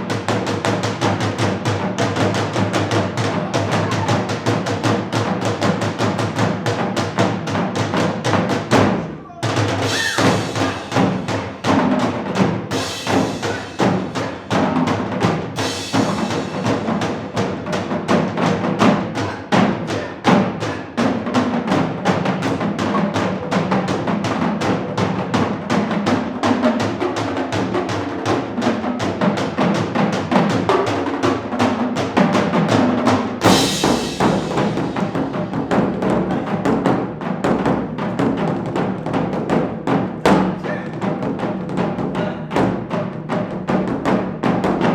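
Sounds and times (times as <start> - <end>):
percussion ensemble drumming: 0.0 - 44.9.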